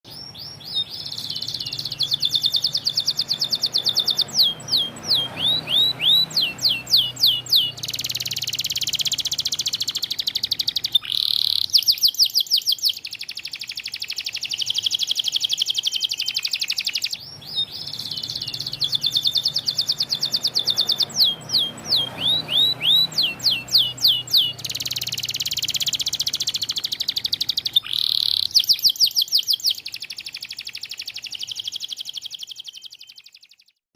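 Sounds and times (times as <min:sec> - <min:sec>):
canary singing trills: 0:00.1 - 0:33.8.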